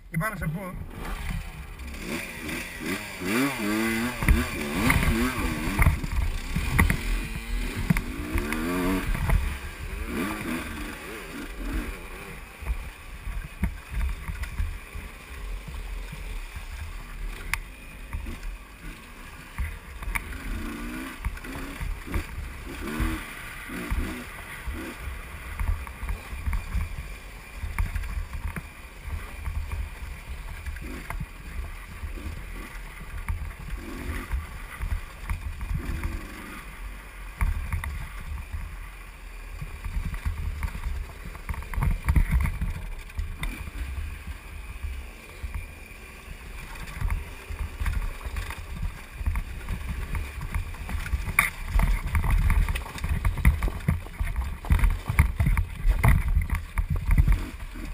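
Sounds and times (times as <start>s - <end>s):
dirt bike engine revving: 0.2s - 57.9s.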